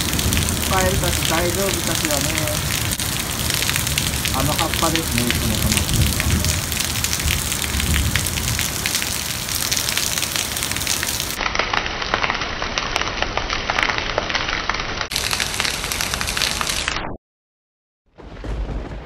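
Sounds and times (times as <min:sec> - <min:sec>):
raindrops spattering on surfaces: 0:00.0 - 0:16.9
heavy rain pouring: 0:00.0 - 0:17.0.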